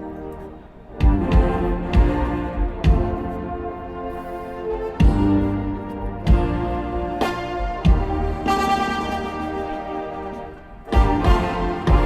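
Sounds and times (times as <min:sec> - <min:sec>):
brass holding full chords: 0:00.0 - 0:12.0
accented percussion hits: 0:00.9 - 0:09.9, 0:10.6 - 0:12.0.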